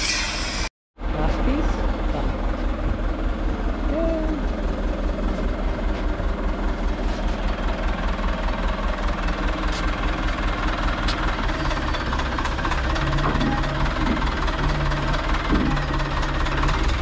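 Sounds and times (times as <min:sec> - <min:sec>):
diesel engine running: 0:00.4 - 0:17.0.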